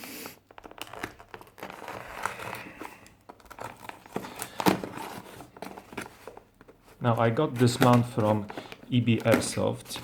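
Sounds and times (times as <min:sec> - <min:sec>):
packaging crinkling and rustling: 0:00.3 - 0:10.0.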